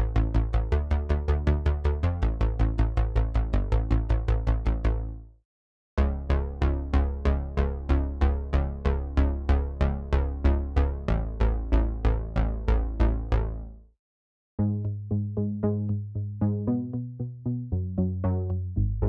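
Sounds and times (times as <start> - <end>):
synthesizer bass arpeggio: 0.0 - 5.2, 6.0 - 13.8, 14.6 - 19.0.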